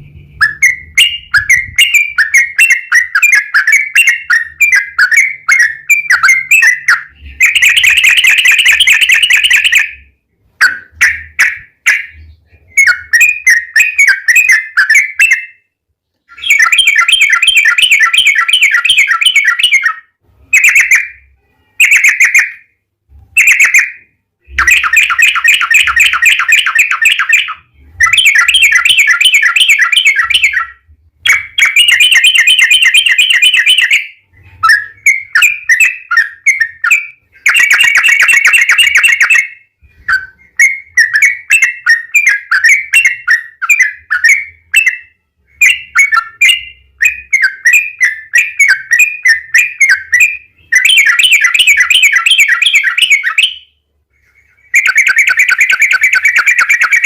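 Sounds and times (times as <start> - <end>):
bird singing rolling chatters: 0.0 - 22.7, 23.4 - 57.0
bird chirps: 0.0 - 57.0.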